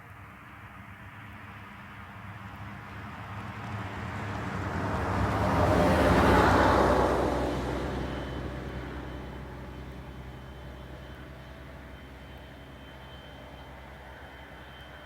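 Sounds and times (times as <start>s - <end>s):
bus driving past: 2.0s - 15.0s.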